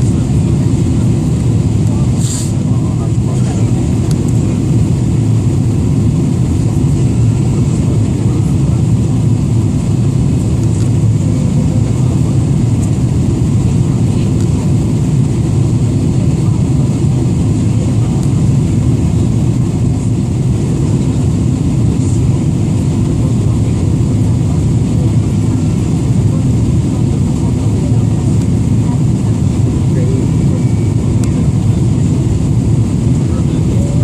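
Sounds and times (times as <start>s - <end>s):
airflow over fuselage: 0.0s - 34.0s
airplane cabin engine roar: 0.0s - 34.0s.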